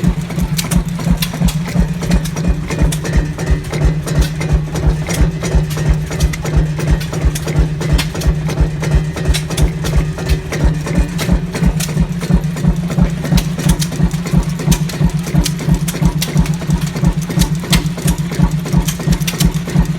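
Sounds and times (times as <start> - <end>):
diesel engine thumping slowly: 0.0 - 19.9.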